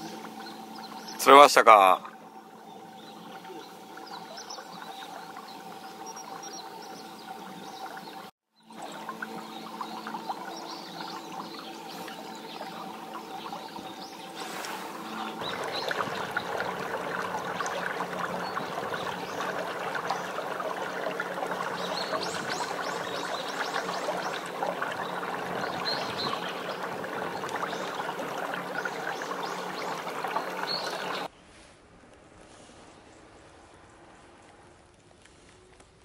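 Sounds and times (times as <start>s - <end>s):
low motor hum: 0.0s - 1.2s, 2.0s - 31.3s
water rushing along boat bow: 0.0s - 31.3s.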